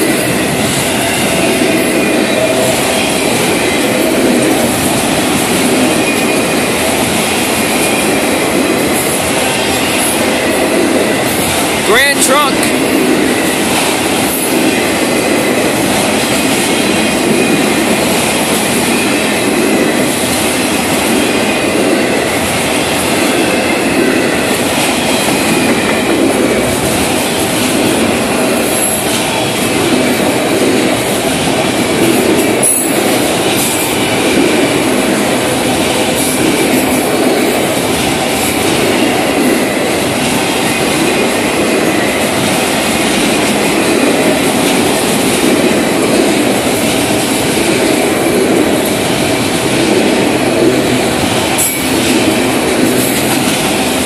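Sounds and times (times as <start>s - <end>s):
freight train cars rolling: 0.0s - 54.0s.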